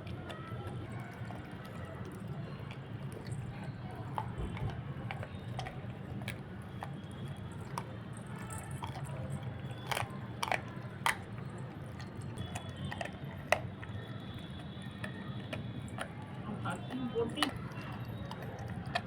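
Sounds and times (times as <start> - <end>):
puppy chewing meat: 0.0 - 19.0.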